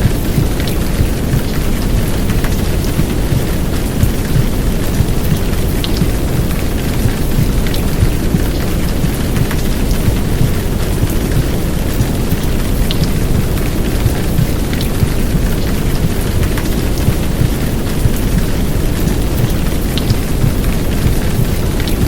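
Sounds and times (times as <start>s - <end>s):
heavy rain downpour: 0.0s - 22.0s
white noise: 0.0s - 22.0s.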